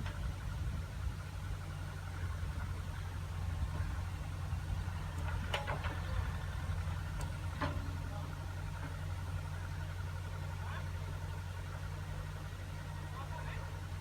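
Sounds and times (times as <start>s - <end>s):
diesel engine running at low revs: 0.0s - 14.0s.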